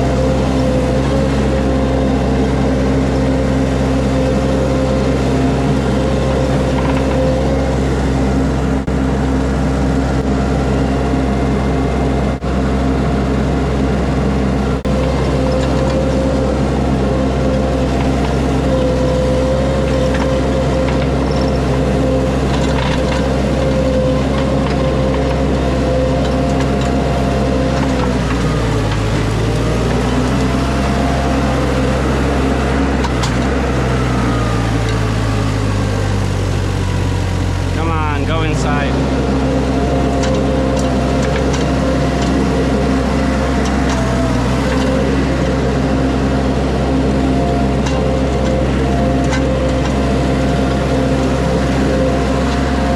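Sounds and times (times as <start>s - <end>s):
hydraulic whine: 0.0s - 52.9s
skid steer engine running: 0.0s - 52.9s.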